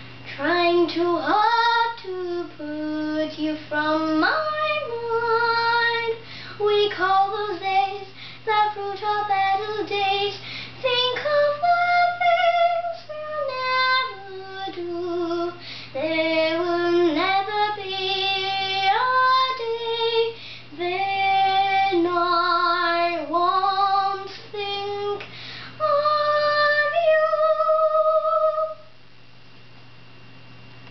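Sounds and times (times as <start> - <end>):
faint low hum: 0.0 - 30.9
girl singing: 0.3 - 28.9.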